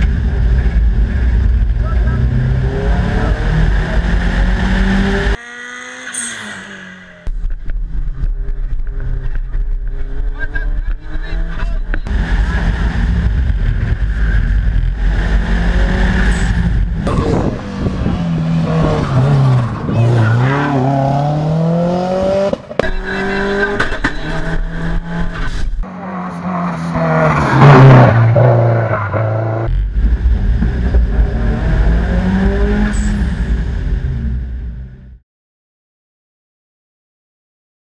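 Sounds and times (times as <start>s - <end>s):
rally car engine revving: 0.0s - 35.2s.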